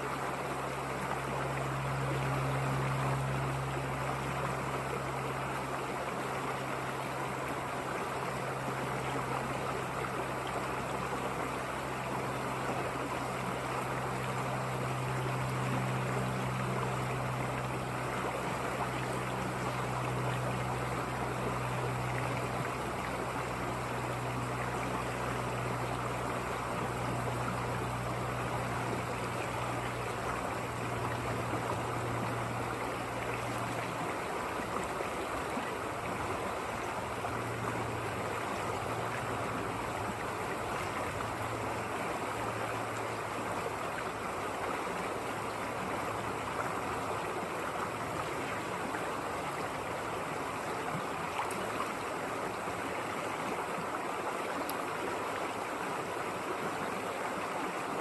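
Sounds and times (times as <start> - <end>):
river water rushing: 0.0 - 58.0
low hum: 0.1 - 50.5.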